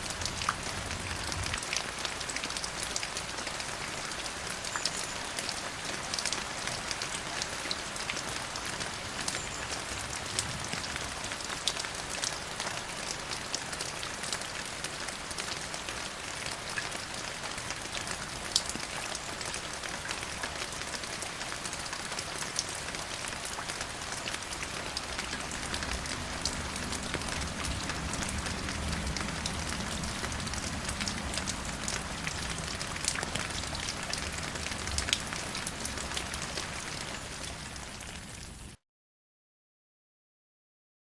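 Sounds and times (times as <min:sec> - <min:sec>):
rain drops ticking on a surface: 0:00.0 - 0:38.8.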